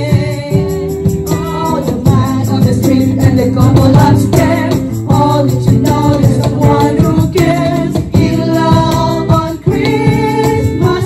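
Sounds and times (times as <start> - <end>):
electric guitar: 0.0 - 11.0
percussion strikes: 0.0 - 11.0
women singing a carol: 0.0 - 11.0.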